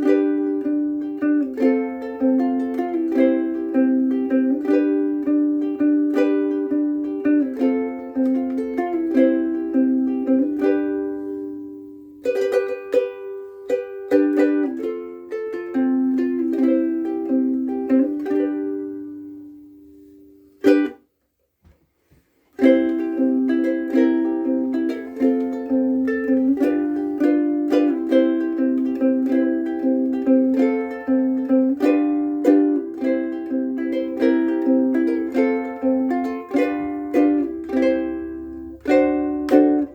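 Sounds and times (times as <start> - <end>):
ukulele picking and strumming: 0.0 - 39.9.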